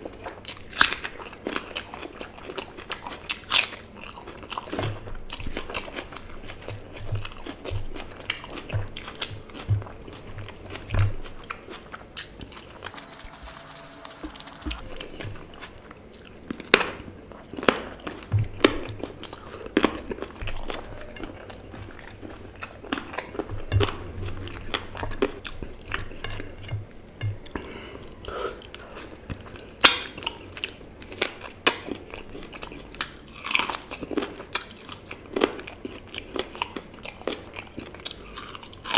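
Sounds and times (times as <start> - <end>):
food crunching: 0.0 - 38.9
man chewing food: 0.0 - 38.9.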